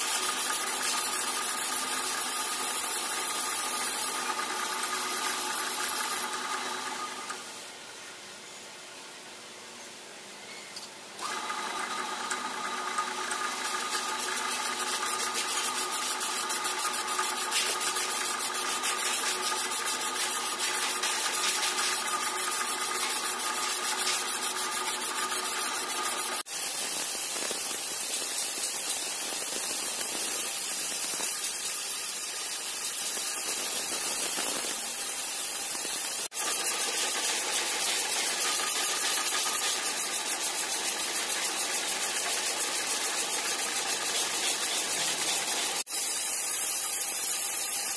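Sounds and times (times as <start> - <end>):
hiss of metal cutting: 0.0 - 7.7, 13.2 - 47.9.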